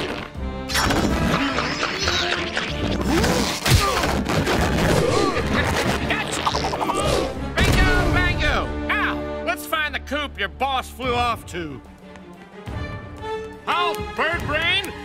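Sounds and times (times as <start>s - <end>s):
action music: 0.0s - 15.0s.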